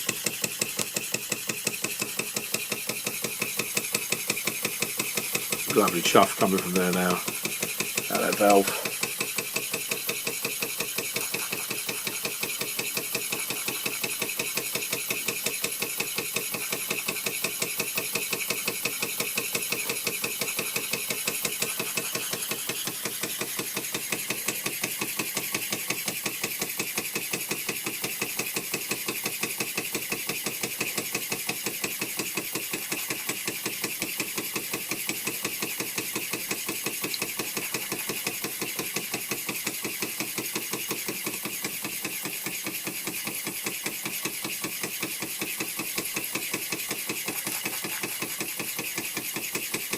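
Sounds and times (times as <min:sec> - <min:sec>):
steam engine exhaust chuffing: 0:00.0 - 0:49.9.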